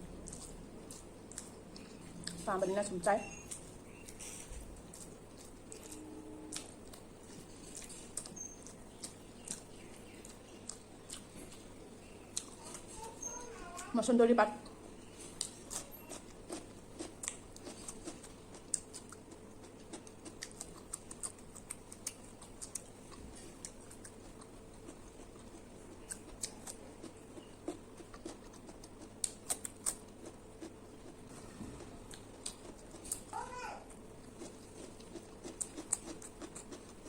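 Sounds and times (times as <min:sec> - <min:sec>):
chewing and mouth smacks: 0:00.2 - 0:02.5, 0:03.4 - 0:12.9, 0:14.6 - 0:33.3, 0:34.2 - 0:37.0.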